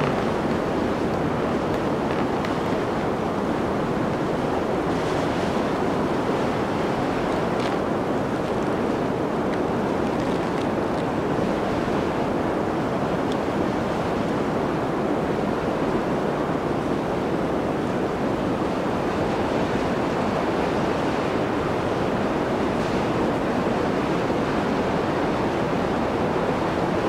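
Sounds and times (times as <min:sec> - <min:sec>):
blizzard wind rushing: 0:00.0 - 0:27.0.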